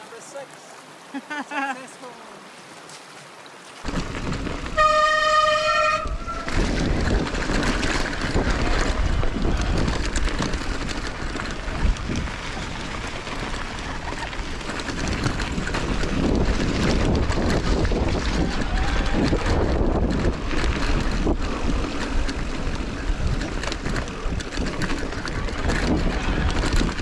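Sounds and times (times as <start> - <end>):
bike rattling on gravel: 3.8 - 27.0
wind buffeting microphone: 3.8 - 27.0.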